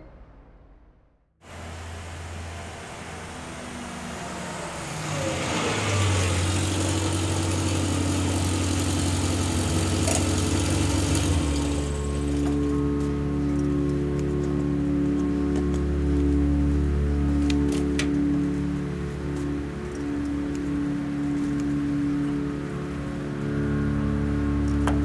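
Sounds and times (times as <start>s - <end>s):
small car engine idling: 1.4s - 25.0s.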